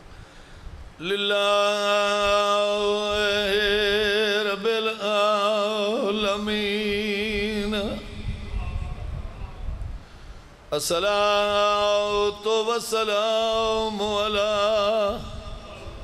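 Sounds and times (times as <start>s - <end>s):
man chanting: 1.0s - 9.9s, 10.7s - 16.0s.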